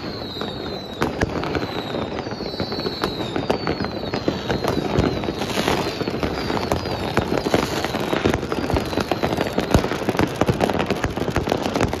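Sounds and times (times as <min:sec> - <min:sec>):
fireworks crackling and banging: 0:00.0 - 0:12.0
fireworks falling whistles: 0:00.0 - 0:12.0.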